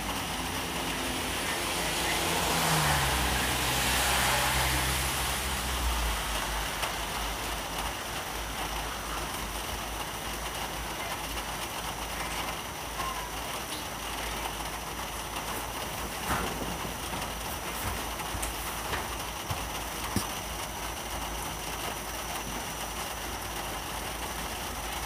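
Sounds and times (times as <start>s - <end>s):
rain hiss: 0.0s - 25.0s
vehicle passing on wet street: 0.0s - 25.0s.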